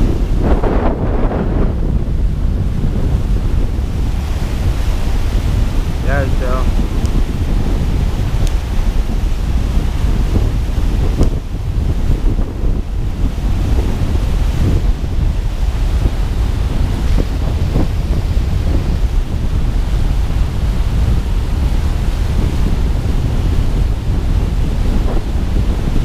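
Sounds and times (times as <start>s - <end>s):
water rushing over spillway: 0.0s - 26.0s
wind buffeting microphone: 0.0s - 26.0s.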